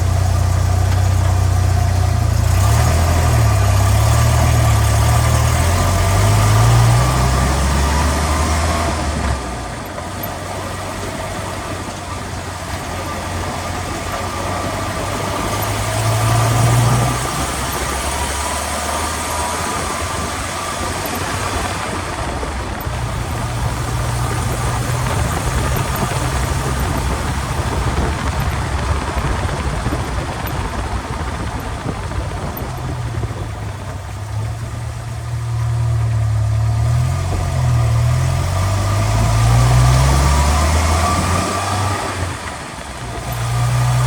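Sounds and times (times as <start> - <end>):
vehicle drivetrain low drone: 0.0 - 44.0.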